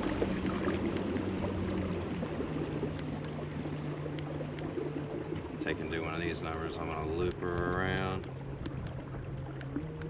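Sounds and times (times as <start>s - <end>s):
water rushing along a hull: 0.0s - 10.0s.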